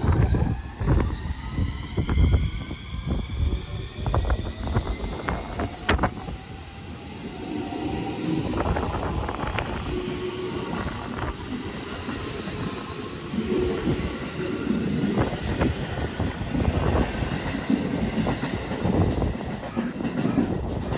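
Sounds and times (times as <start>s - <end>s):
electric train rumble: 0.0s - 20.9s
wind buffeting microphone: 0.0s - 20.9s.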